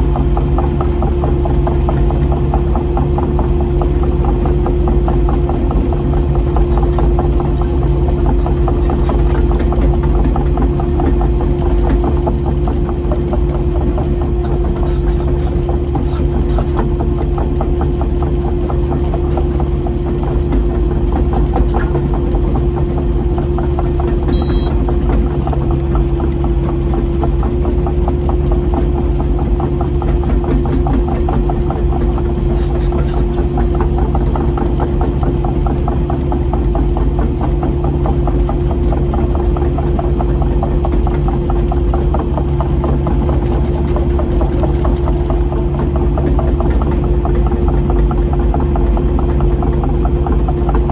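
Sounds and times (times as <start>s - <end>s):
constant whine: 0.0s - 50.9s
excavator diesel engine running: 0.0s - 50.9s.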